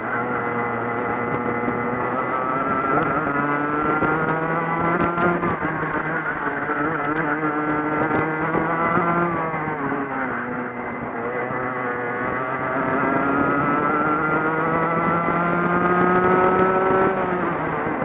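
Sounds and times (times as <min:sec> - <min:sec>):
kart engine at high revs: 0:00.0 - 0:18.0.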